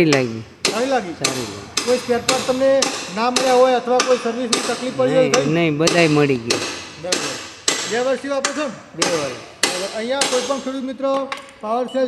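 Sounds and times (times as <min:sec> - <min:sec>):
men talking: 0:00.0 - 0:12.0
hammer striking metal: 0:00.1 - 0:10.8.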